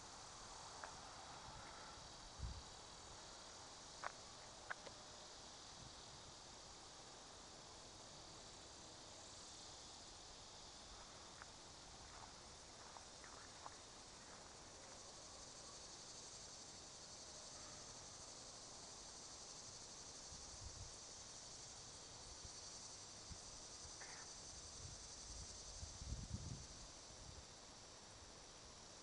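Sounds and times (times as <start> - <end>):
insects chorus: 0.0 - 29.0.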